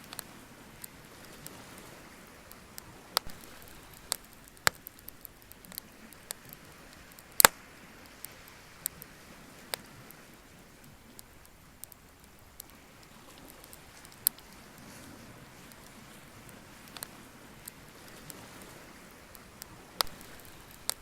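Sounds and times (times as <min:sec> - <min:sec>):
bonfire crackling: 0:00.0 - 0:21.0
faint steady hiss: 0:00.0 - 0:21.0.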